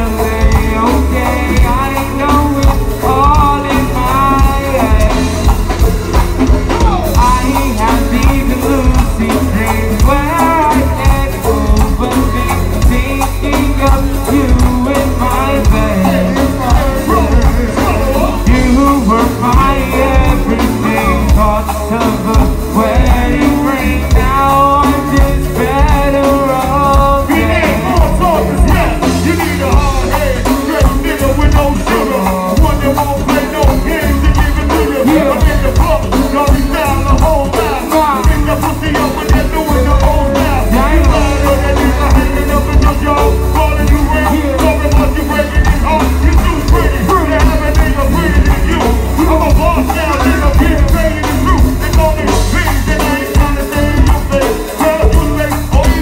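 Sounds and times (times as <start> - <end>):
drums: 0.0 - 56.0
electric guitar: 0.0 - 56.0
heavy bass beat: 0.0 - 56.0
keyboards: 0.0 - 56.0
singers singing: 0.0 - 56.0.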